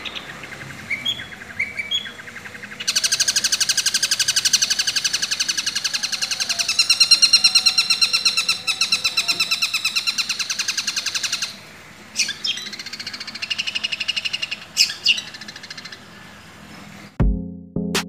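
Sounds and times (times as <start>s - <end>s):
sharp bird calls: 0.0s - 17.2s.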